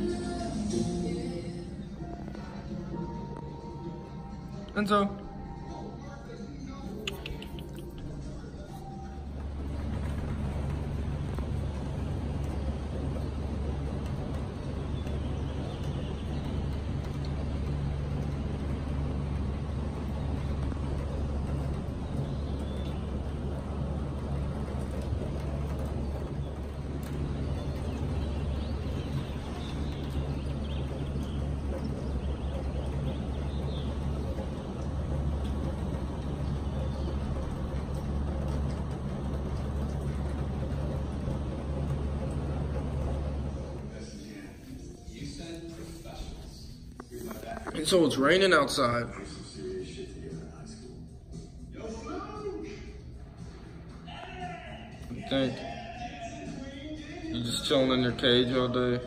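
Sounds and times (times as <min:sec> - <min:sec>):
constant low rumble: 0:00.0 - 0:59.0.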